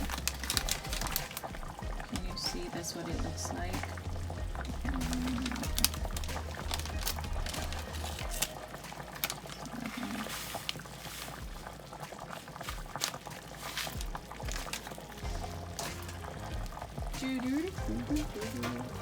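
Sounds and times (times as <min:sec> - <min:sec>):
background music: 0:00.0 - 0:19.0
soup bubbling in a pot: 0:00.0 - 0:19.0.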